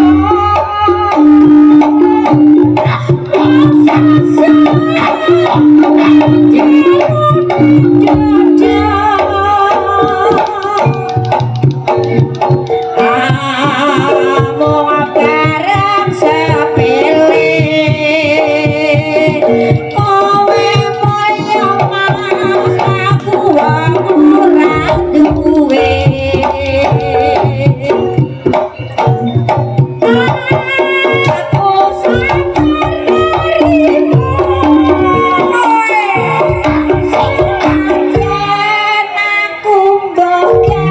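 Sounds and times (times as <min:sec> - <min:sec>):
gamelan notes: 0:00.0 - 0:18.5, 0:19.2 - 0:40.9
hand drums: 0:00.0 - 0:40.9.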